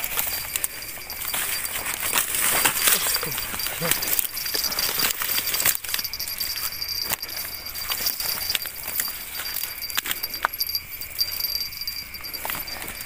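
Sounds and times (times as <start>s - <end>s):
clicks and knocks of gear: 0.0s - 13.0s
hurried footsteps through grass: 0.0s - 13.0s
night insects chirring: 0.0s - 13.0s.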